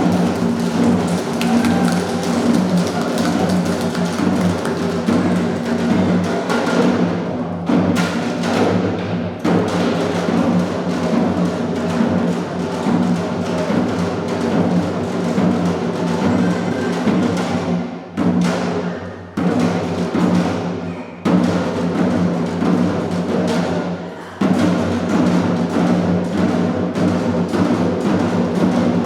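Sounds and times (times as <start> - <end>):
drums and percussion music: 0.0 - 29.0.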